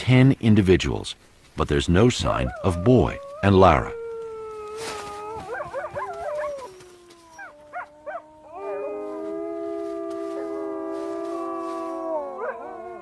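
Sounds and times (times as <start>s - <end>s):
wolves howling: 2.2s - 13.0s.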